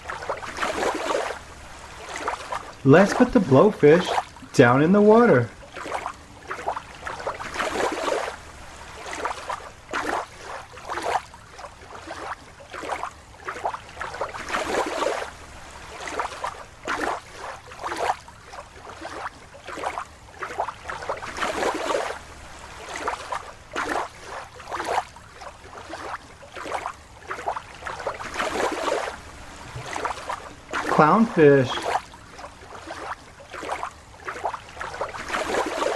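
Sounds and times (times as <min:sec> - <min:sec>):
water splashing and sloshing: 0:00.0 - 0:35.9.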